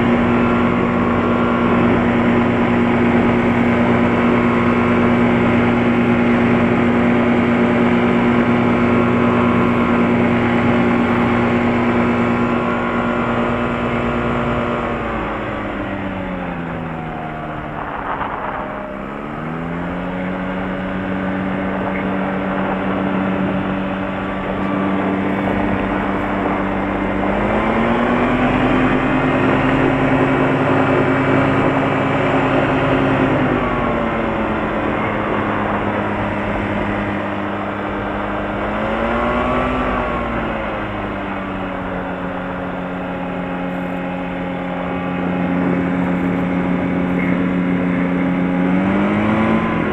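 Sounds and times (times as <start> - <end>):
light aircraft engine: 0.0 - 49.9.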